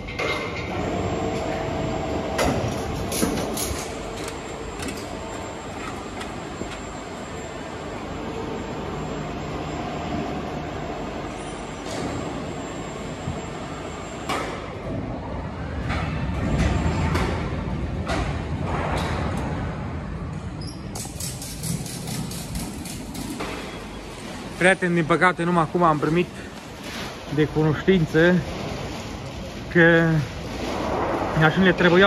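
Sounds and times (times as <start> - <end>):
crane machine hum: 0.0 - 32.0.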